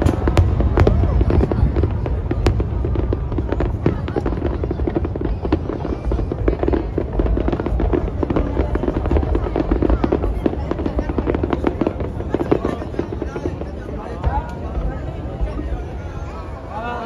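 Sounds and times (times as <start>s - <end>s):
fireworks cracks and pops: 0.0s - 16.4s
low booming: 0.0s - 16.7s.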